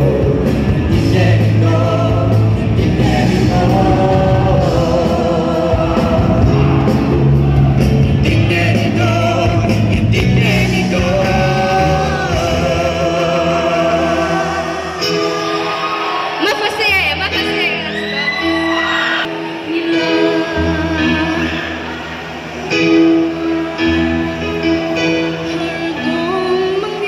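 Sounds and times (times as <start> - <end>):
live band playing with singing: 0.0 - 27.0.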